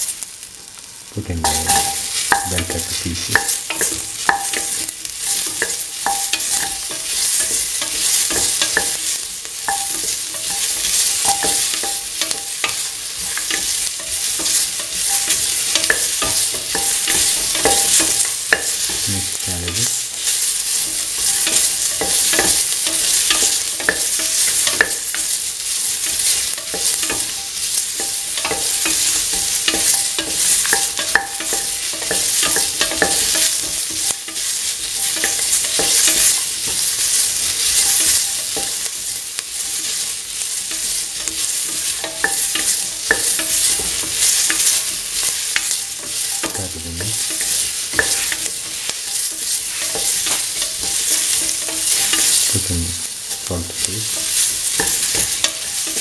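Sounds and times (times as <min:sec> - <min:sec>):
vegetables sizzling in oil: 0:00.0 - 0:56.0
spatula scraping a pan: 0:01.5 - 0:56.0.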